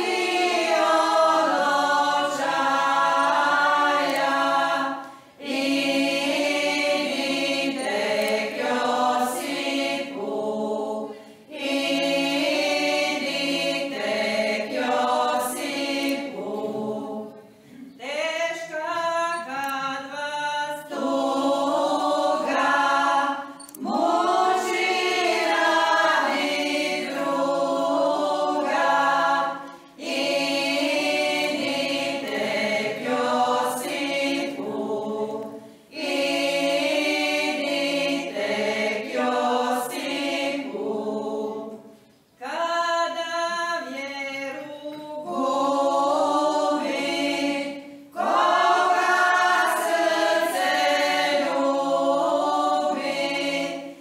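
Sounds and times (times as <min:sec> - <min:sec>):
women's choir singing a hymn: 0:00.0 - 0:54.0.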